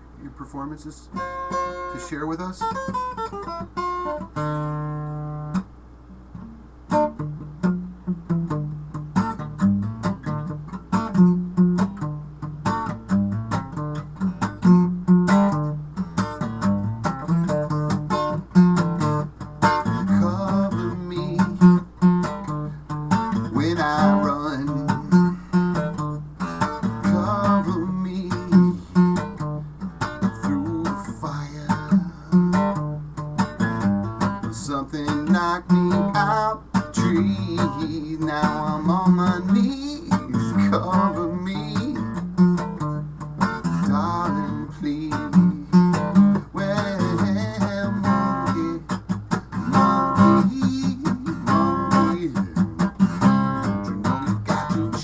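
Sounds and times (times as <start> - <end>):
acoustic guitar plucked: 0.0 - 55.0.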